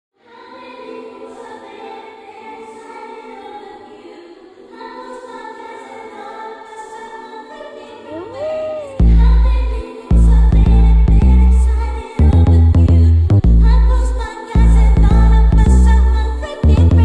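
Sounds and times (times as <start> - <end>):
choir holding long chords: 0.2 - 17.0.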